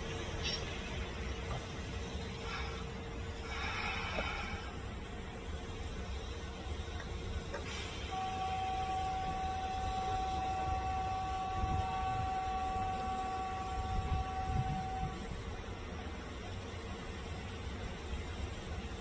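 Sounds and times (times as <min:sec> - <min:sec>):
steady high-pitched tone: 0:00.4 - 0:18.7.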